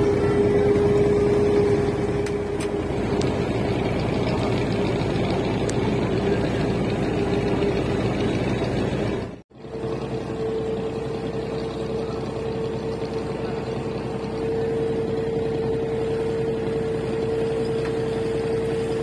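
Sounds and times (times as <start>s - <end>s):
motor boat engine running: 0.0s - 19.0s.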